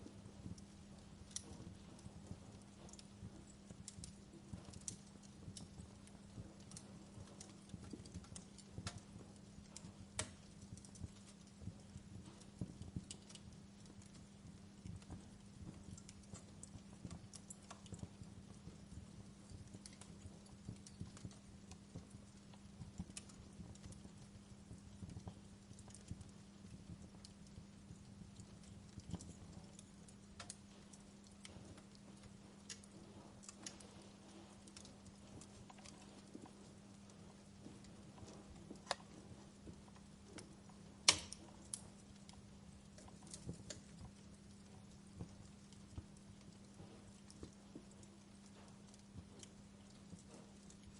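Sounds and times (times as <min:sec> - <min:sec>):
low steady hum: 0:00.0 - 0:50.9
wood fire crackling: 0:00.0 - 0:50.9.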